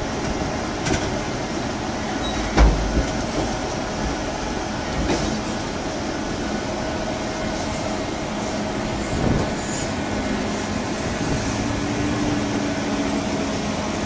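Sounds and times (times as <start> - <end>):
excavator engine rumbling: 0.0 - 14.0.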